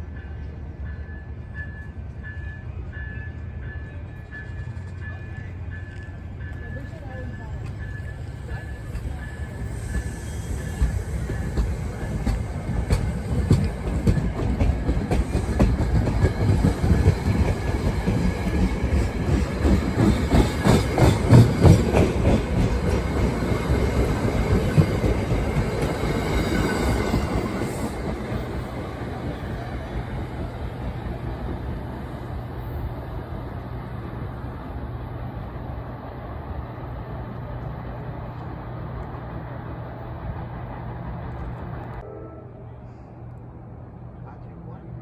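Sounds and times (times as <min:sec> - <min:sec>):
train passing: 0:00.0 - 0:45.0.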